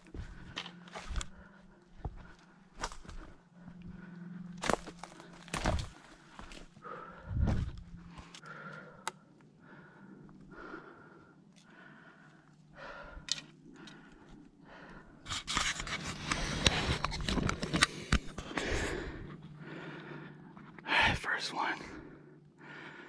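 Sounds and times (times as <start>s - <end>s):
person panting heavily: 0.0s - 17.2s, 17.8s - 23.0s.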